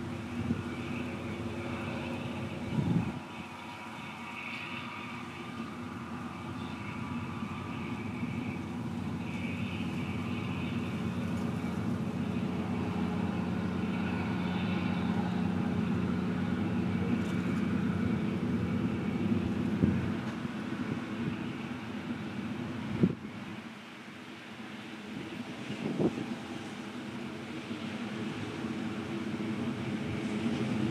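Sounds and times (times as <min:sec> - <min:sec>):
combine harvester engine drone: 0:00.0 - 0:30.9.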